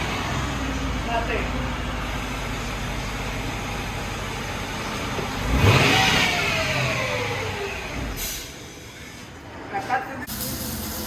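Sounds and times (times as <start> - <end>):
car engine idling and revving: 0.0 - 8.9.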